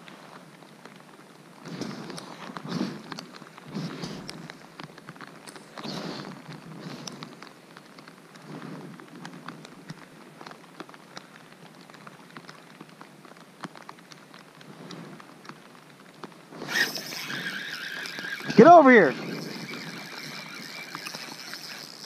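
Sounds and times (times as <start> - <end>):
rain on water and kayak: 0.0 - 22.0.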